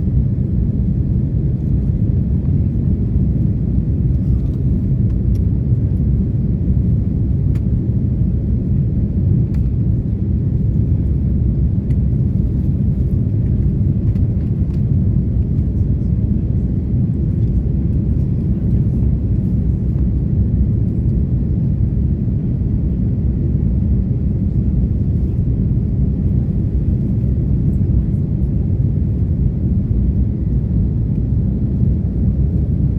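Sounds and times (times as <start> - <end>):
airliner cabin engine rumble: 0.0 - 32.9.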